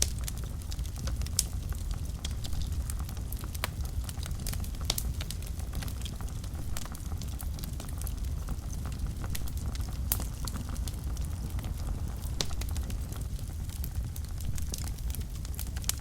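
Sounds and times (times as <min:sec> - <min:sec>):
fire flames rumbling: 0:00.0 - 0:16.0
wood crackling and popping: 0:00.0 - 0:16.0.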